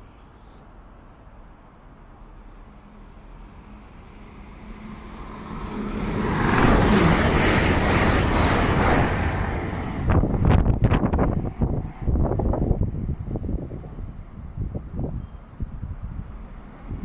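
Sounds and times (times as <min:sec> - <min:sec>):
train approaching at speed: 0:01.0 - 0:17.0.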